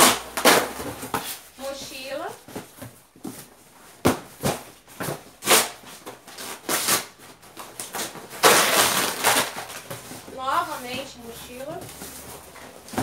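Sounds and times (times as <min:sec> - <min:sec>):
cardboard boxes rustling and knocking: 0:00.0 - 0:13.0
cardboard scraping rustle: 0:00.0 - 0:13.0.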